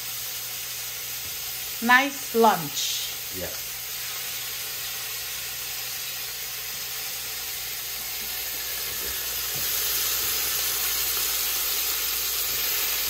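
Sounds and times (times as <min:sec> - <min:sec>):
meat frying in hot oil: 0:00.0 - 0:13.0.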